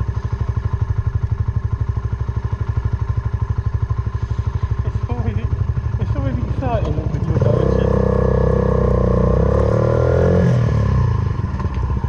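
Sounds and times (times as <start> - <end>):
motorcycle engine thumping at low revs: 0.0 - 12.0.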